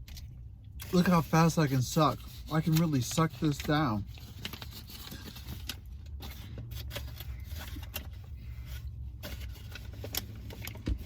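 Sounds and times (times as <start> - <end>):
food and wrappers rustling: 0.2 - 11.0.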